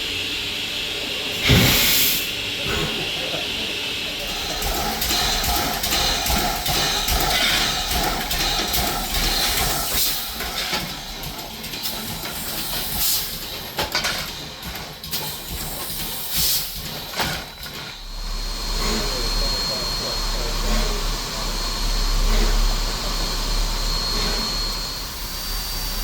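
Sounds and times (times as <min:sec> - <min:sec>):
steam locomotive hissing: 0:00.0 - 0:26.0.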